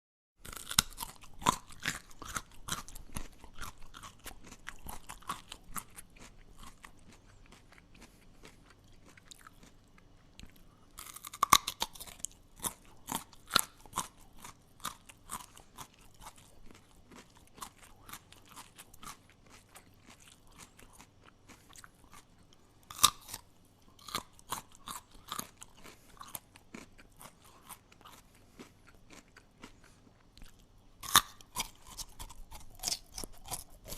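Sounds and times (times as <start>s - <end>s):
person chewing crunchy food: 0.4s - 33.9s.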